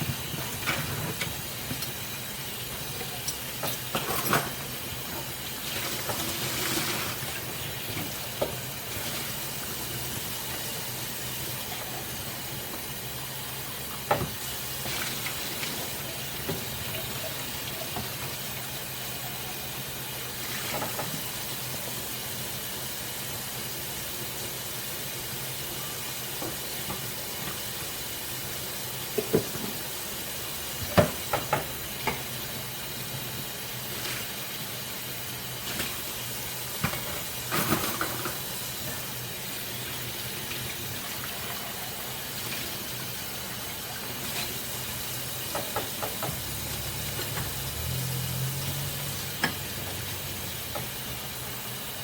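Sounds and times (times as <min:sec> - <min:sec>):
running water hiss: 0:00.0 - 0:52.0.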